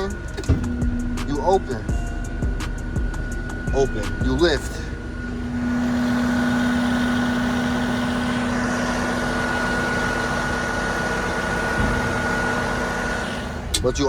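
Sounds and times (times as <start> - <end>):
higher whine: 0.0 - 14.0
steady low hum: 0.0 - 14.0
truck engine running: 0.0 - 14.0.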